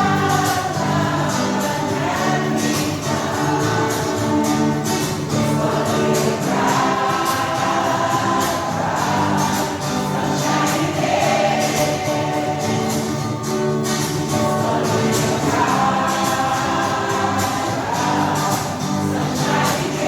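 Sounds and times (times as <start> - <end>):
choir singing gospel song: 0.0 - 20.0
percussion beat: 0.0 - 20.0.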